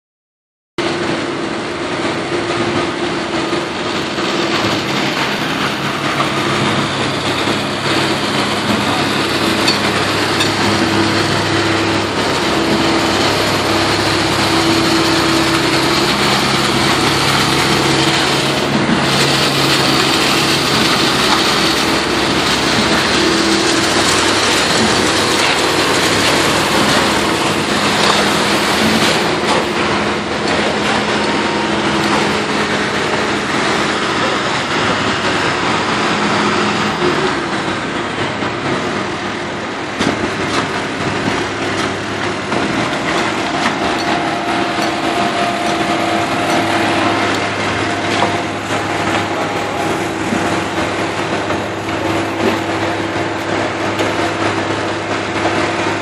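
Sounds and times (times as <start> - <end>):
machinery engine droning: 0.8 - 56.0.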